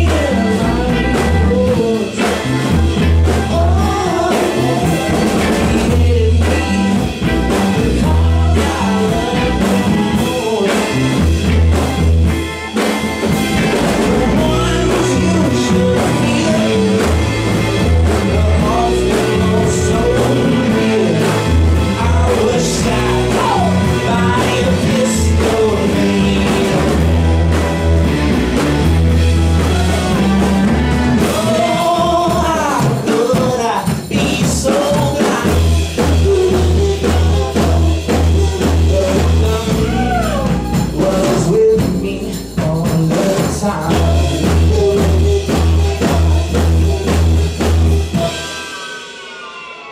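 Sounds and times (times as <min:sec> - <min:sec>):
live rock band with singer: 0:00.0 - 0:49.9.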